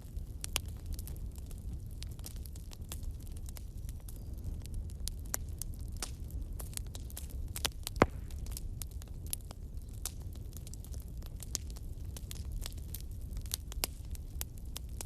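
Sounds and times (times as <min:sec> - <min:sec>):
bonfire crackling and popping: 0:00.0 - 0:15.0
low rumble of flames: 0:00.0 - 0:15.0.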